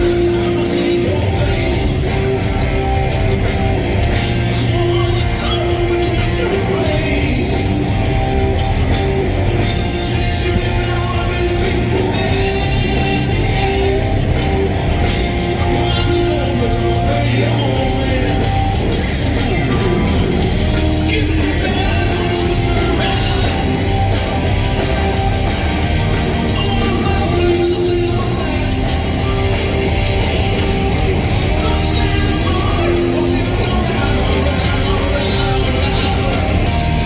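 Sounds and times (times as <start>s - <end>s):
hard rock band playing live: 0.0s - 37.0s.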